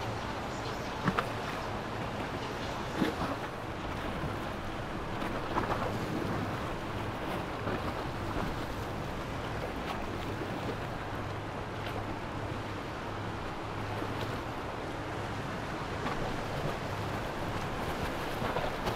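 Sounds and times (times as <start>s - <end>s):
boat engine hum: 0.0s - 18.9s
water and wind noise: 0.0s - 18.9s.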